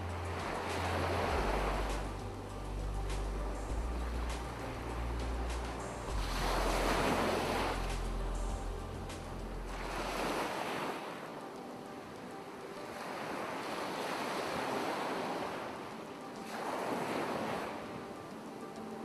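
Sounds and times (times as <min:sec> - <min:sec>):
ocean surf washing in and out: 0:00.0 - 0:19.0.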